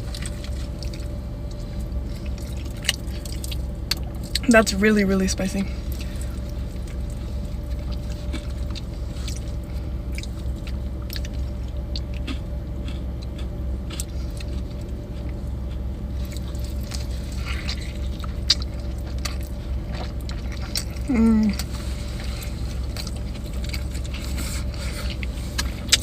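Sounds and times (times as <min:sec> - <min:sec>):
chewing with wet smacks: 0:00.0 - 0:04.8, 0:05.8 - 0:26.0
low hum: 0:00.0 - 0:26.0.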